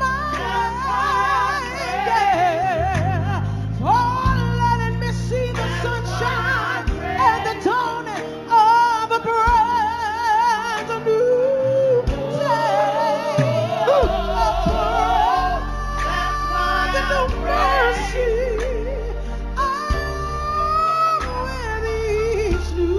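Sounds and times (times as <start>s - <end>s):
instrumental backing with bass: 0.0s - 22.9s
woman singing gospel: 0.0s - 22.9s.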